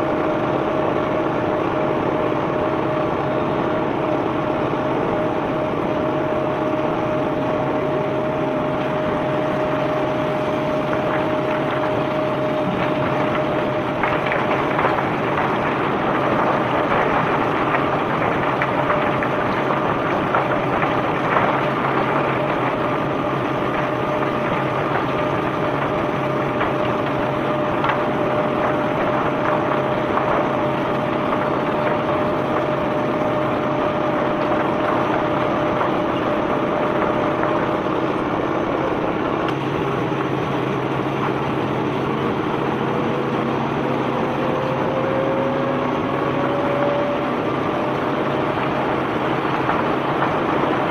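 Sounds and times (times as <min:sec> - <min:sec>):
diesel engine running: 0:00.0 - 0:50.9
rushing limestone discharge: 0:03.8 - 0:50.9.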